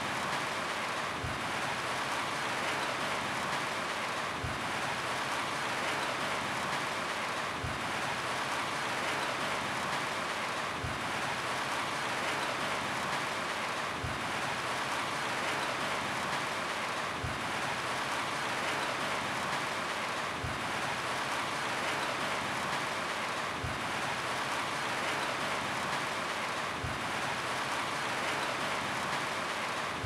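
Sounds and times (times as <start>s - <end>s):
rain falling on a roof: 0.0s - 30.0s.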